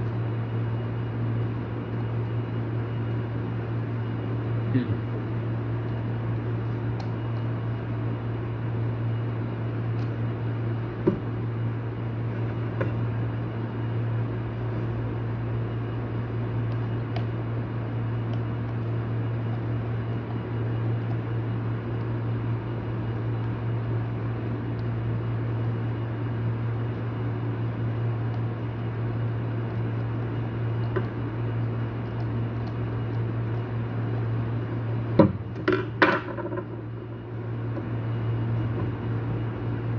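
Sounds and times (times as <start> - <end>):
steady low machine hum: 0.0 - 39.9.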